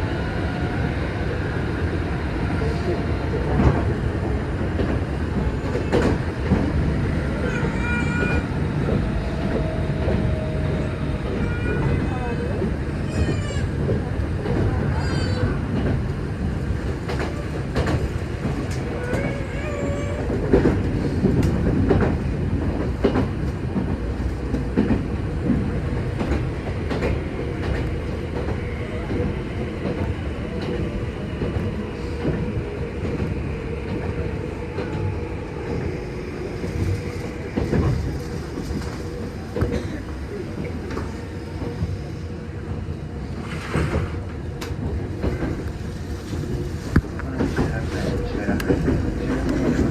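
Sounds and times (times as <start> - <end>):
train rumble inside carriage: 0.0 - 49.9.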